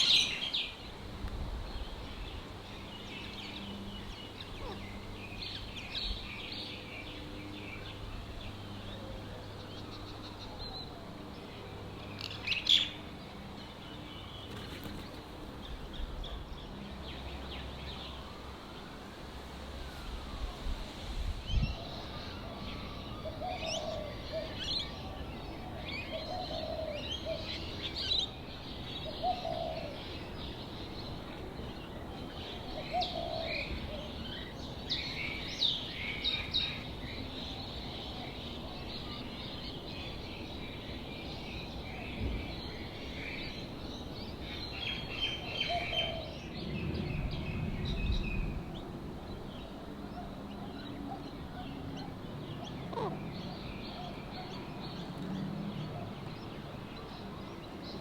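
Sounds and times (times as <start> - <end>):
birds chirping and tweeting: 0.0 - 58.0.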